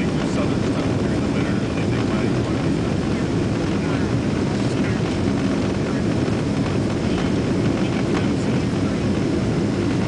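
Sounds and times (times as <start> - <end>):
jet engines and airflow rumble: 0.0 - 10.0.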